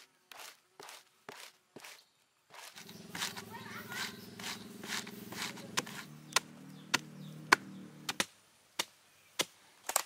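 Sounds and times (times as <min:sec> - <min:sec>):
hand tool chopping palm pith: 0:00.0 - 0:10.0.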